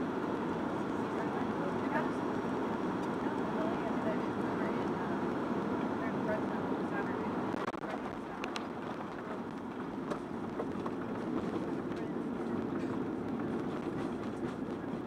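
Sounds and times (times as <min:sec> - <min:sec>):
aircraft cabin engine noise: 0:00.0 - 0:15.0.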